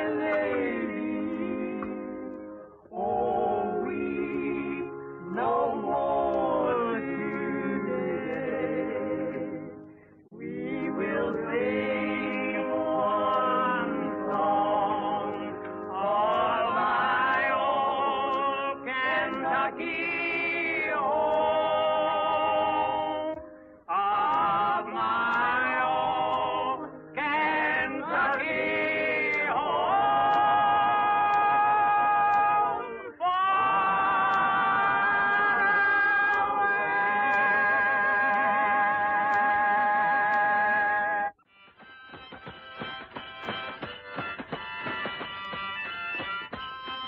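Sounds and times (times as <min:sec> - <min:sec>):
group of voices singing: 0:00.0 - 0:41.4.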